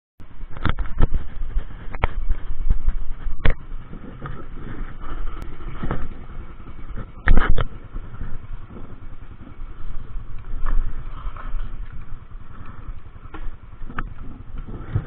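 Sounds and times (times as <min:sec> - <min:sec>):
motorbike engine idling: 0:00.2 - 0:15.0.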